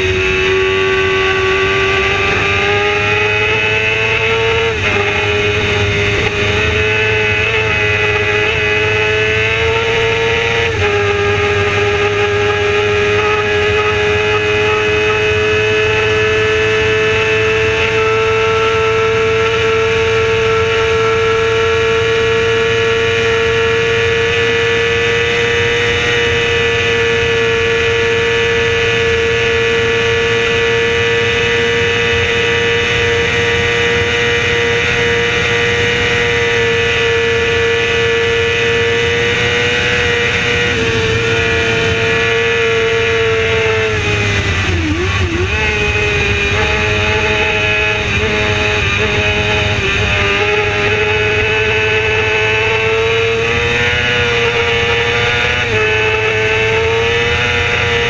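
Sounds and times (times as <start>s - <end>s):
racing motorcycle engine revving: 0.0s - 58.0s.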